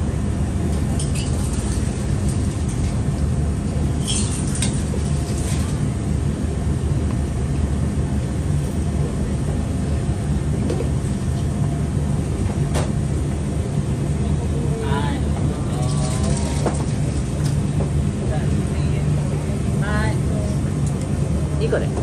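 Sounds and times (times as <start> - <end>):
kitchen low rumble: 0.0 - 22.0.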